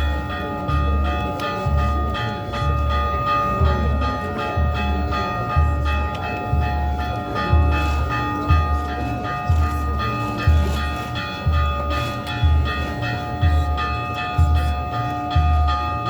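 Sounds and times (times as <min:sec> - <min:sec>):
bells ringing: 0:00.0 - 0:16.0.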